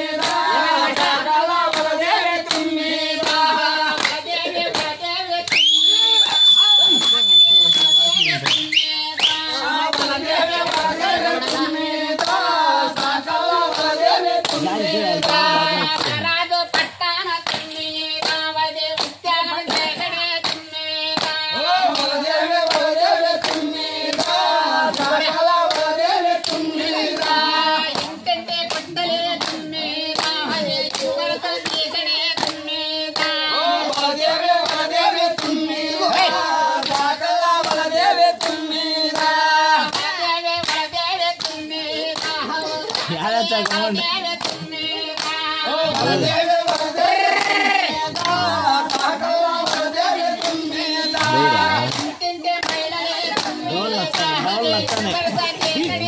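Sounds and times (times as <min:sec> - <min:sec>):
group singing folk song: 0:00.0 - 0:56.0
hands clapping in rhythm: 0:00.0 - 0:56.0.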